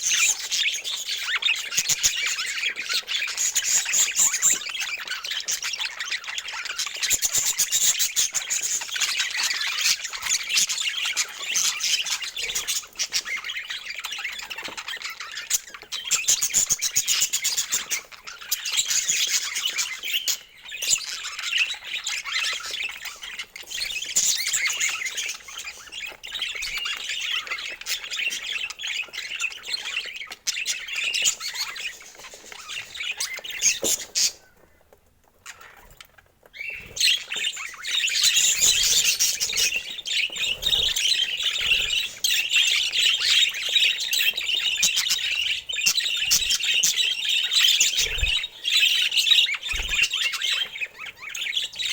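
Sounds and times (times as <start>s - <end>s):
budgerigars chattering: 0.0s - 34.6s, 35.4s - 51.9s.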